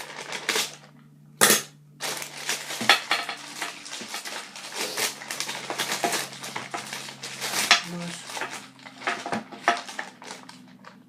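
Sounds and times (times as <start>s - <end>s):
packaging rustling and crackling: 0.0s - 0.9s, 2.0s - 11.0s
packaging snapping: 0.0s - 11.0s.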